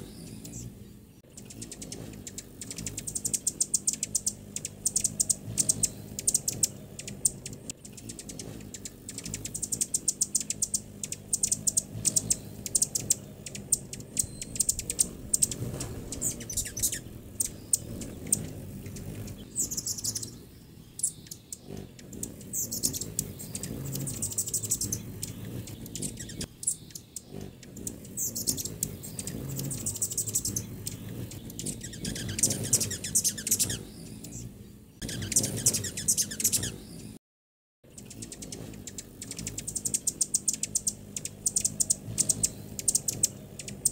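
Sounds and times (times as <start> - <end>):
hummingbirds chipping and twittering: 0.0 - 37.2, 37.9 - 43.9.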